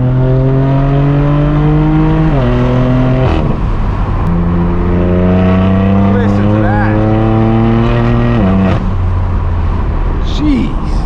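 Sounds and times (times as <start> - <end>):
car exhaust revving through gears: 0.0 - 10.2.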